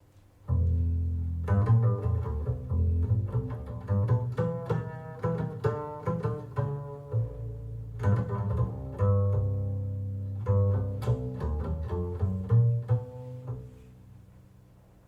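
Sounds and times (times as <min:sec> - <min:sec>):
deep bass line: 0:00.5 - 0:14.1
plucked string notes: 0:00.5 - 0:14.1.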